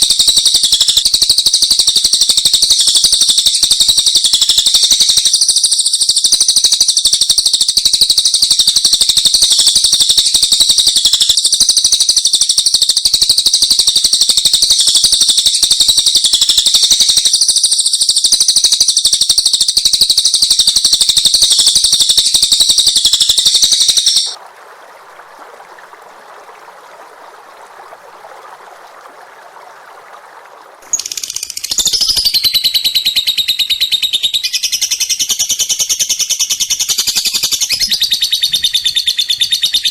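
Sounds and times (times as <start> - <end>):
songbird trilling song: 0.0 - 24.4, 30.8 - 39.9.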